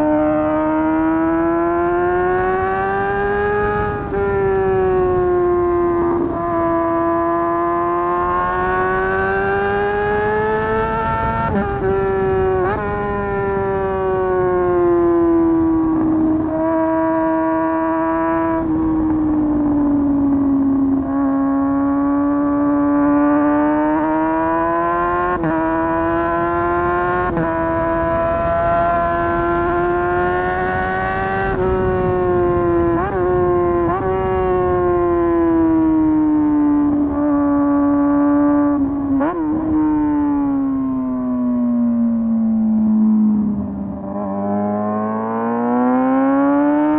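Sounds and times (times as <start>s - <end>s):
motorcycle engine at high revs: 0.0s - 46.9s.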